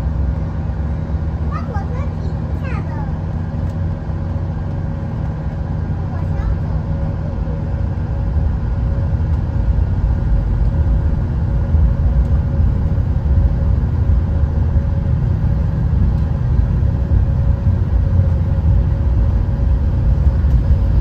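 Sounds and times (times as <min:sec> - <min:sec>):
train rumble from inside: 0:00.0 - 0:21.0.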